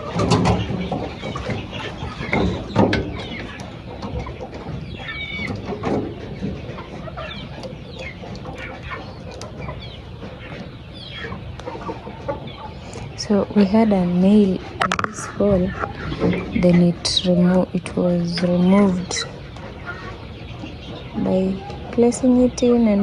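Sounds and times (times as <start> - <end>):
chicks and chickens peeping and clucking: 0.0 - 23.0.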